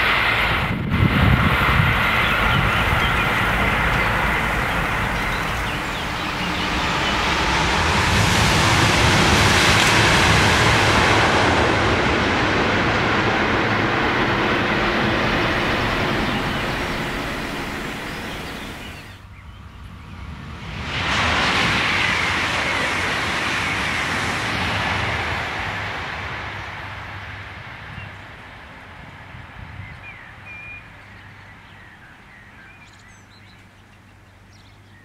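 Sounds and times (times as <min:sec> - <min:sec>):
high-speed train passing: 0:00.0 - 0:31.6.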